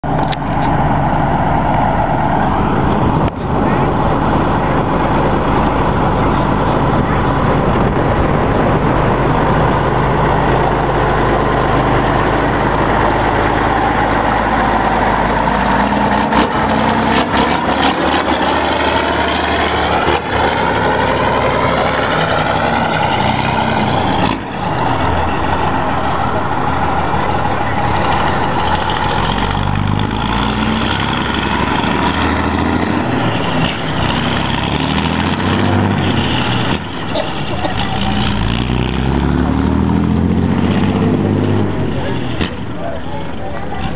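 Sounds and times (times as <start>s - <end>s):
truck diesel engine revving past: 0.0s - 43.9s.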